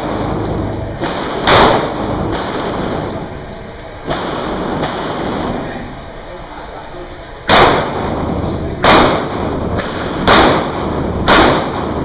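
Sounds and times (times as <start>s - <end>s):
handgun shots echoing: 0.0s - 5.6s, 7.5s - 12.0s.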